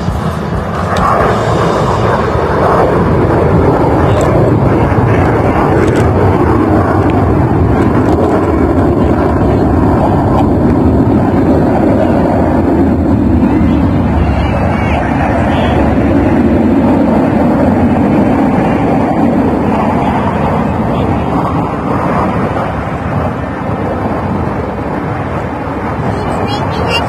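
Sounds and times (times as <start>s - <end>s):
fighter jets flying overhead: 0.0s - 27.0s.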